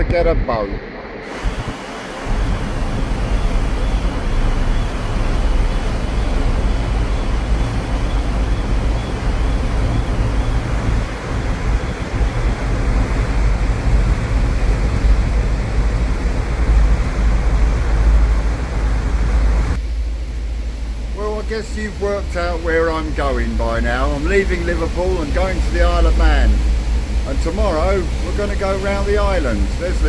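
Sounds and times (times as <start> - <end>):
steady low rumble: 0.0 - 30.0
wind buffeting microphone: 0.0 - 30.0.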